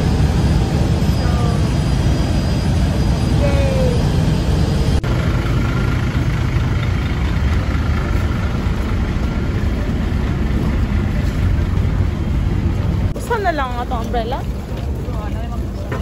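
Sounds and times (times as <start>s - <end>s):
diesel engines idling: 0.0s - 16.0s.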